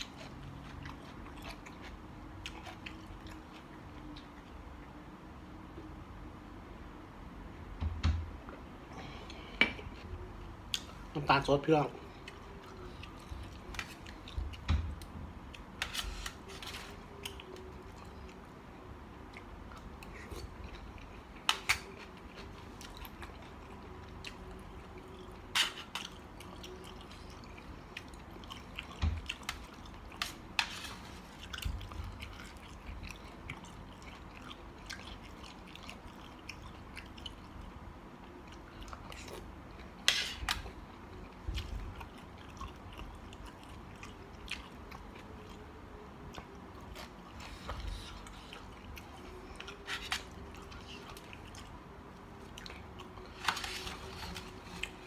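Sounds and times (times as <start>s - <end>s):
person chewing: 0.0s - 4.9s, 12.0s - 18.6s, 19.2s - 55.0s.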